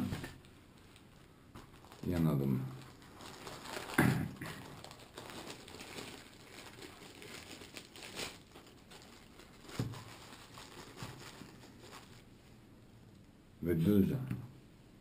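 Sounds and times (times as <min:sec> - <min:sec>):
plastic bags crinkling: 0:00.3 - 0:12.4.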